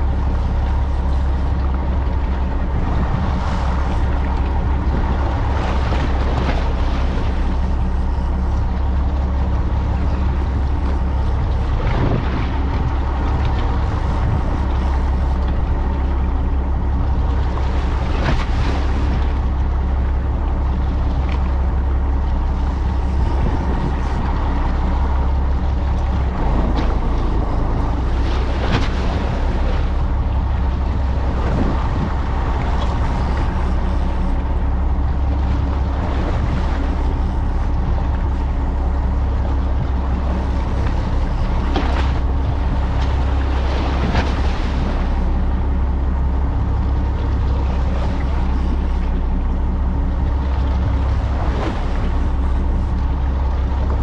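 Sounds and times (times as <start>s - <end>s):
boat engine humming: 0.0s - 54.0s
wind and water rushing: 0.0s - 54.0s.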